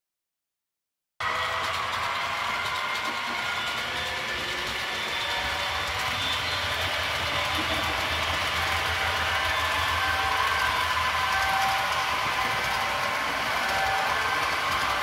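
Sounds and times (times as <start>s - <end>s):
model train motor whirring: 1.2s - 15.0s
wheels rolling on track: 1.2s - 15.0s.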